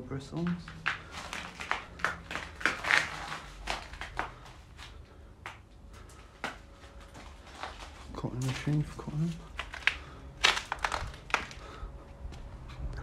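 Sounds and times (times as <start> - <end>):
debris crunching and crackling: 0.3 - 12.0.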